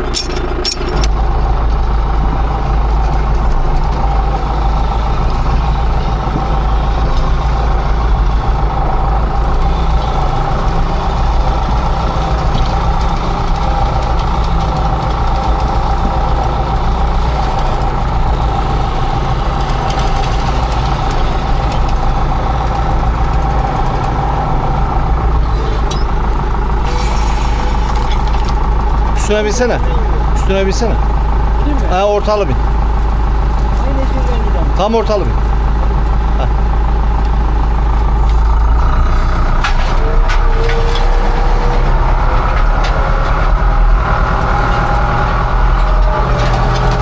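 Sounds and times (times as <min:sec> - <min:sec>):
farm machinery engine running: 0:00.0 - 0:47.0.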